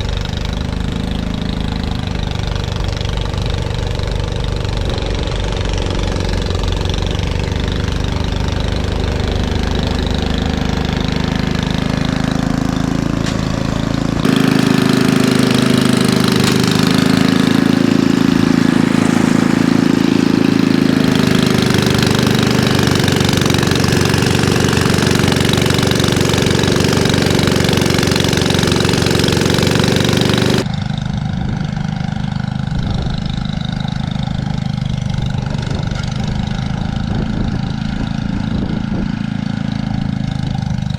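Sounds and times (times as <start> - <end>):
snow blower engine running: 0.0 - 40.9.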